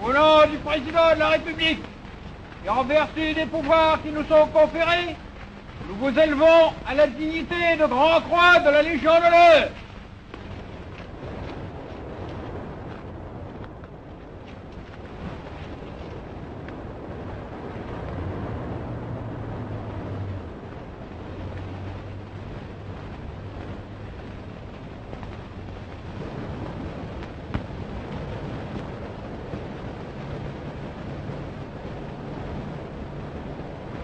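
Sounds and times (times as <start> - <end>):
film soundtrack hiss and rumble: 0.0 - 34.0.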